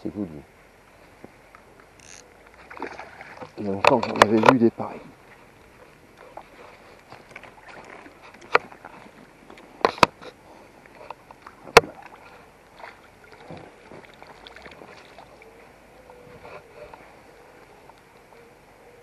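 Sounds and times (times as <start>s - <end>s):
water splashing and sloshing: 1.0s - 18.4s.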